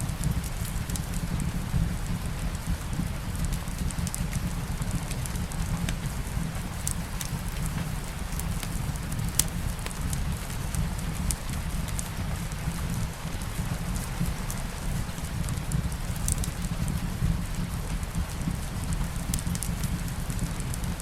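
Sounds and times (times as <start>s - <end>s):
light rain hiss: 0.0s - 21.0s
wood fire crackling and popping: 0.2s - 21.0s.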